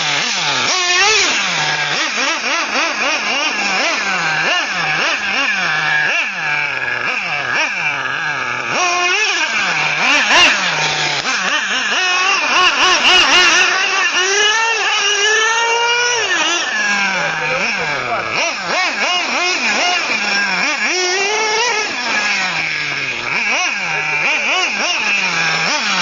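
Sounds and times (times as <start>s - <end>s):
model nitro engine revving: 0.0s - 26.0s.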